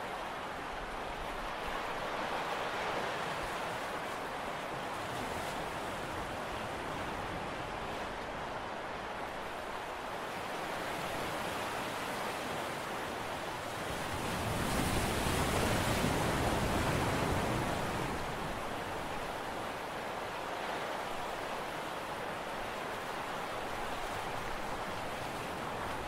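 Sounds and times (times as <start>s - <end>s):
sea: 0.0s - 26.0s
wind: 0.0s - 26.0s.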